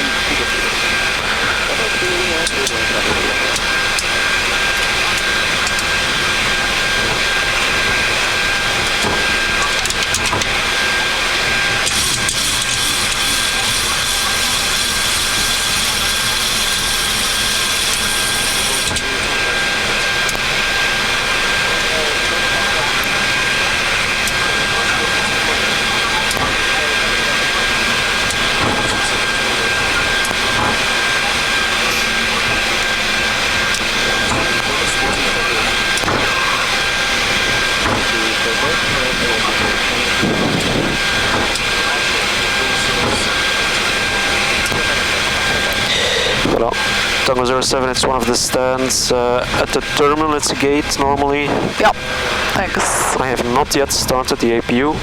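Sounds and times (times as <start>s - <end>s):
aircraft cockpit noise: 0.0s - 55.0s
jet engines idling: 0.0s - 55.0s.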